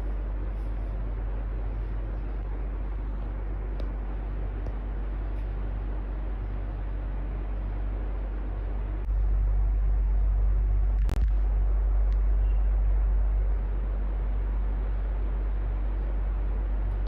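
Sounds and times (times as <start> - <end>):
electric fan whooshing: 0.0 - 17.0.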